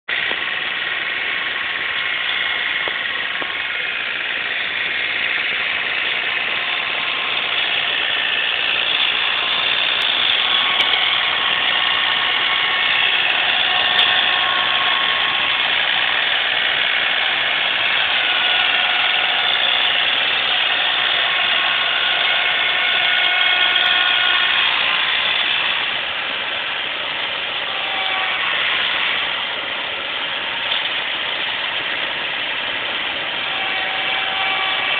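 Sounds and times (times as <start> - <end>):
tractor snowblower drone: 0.1 - 34.9.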